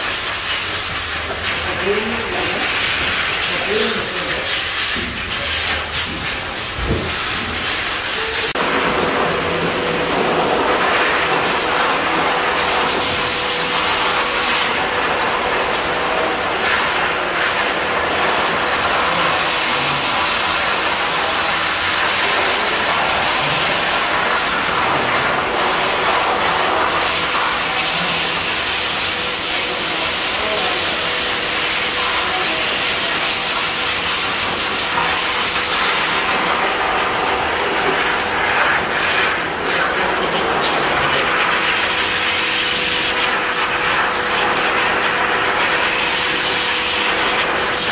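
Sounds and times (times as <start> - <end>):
pet dryer blowing air: 0.0 - 47.9
shower hose spraying water: 0.0 - 47.9.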